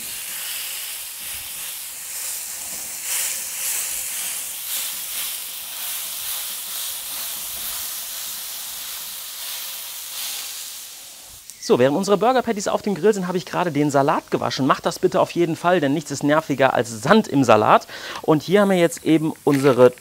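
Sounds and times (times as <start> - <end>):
burger patties sizzling on griddle: 0.0 - 20.0.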